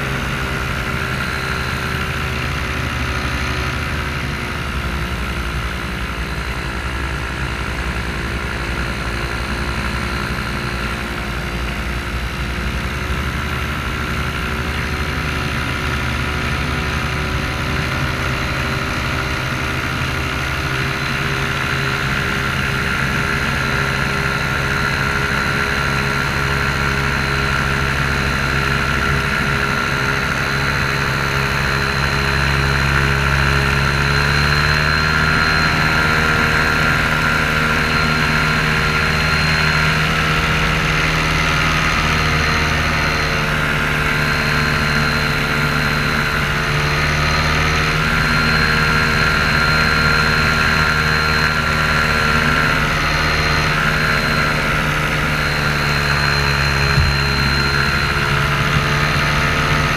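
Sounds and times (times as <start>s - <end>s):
paramotor engine and propeller running: 0.0s - 59.9s.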